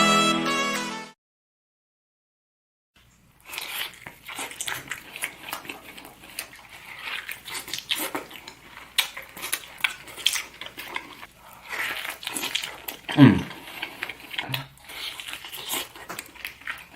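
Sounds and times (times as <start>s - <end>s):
chewing and mouth noises: 3.0s - 16.9s.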